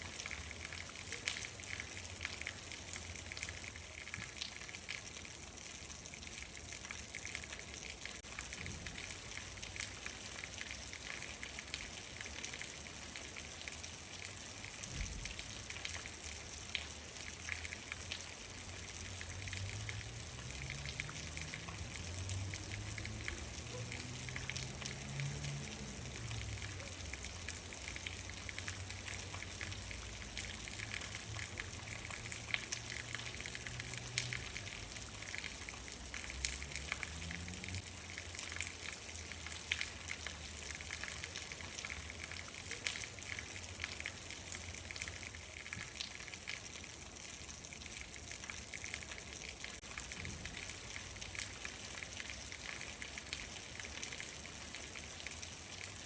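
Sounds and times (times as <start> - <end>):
rain drops ticking: 0.0 - 56.0
steady rain: 0.0 - 56.0.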